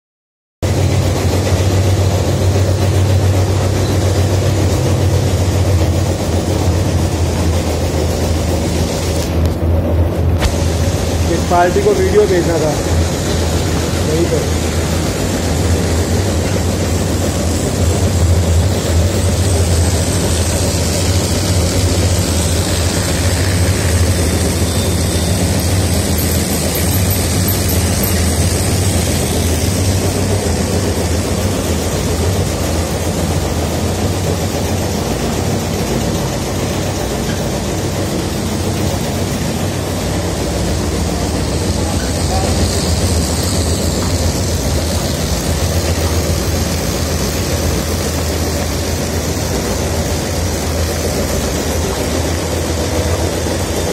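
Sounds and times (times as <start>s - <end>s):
folding machine running: 0.7s - 53.9s.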